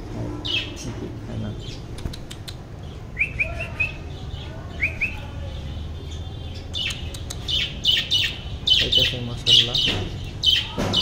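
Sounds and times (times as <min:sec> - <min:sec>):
budgerigars chirping: 0:00.4 - 0:02.2, 0:02.8 - 0:11.0.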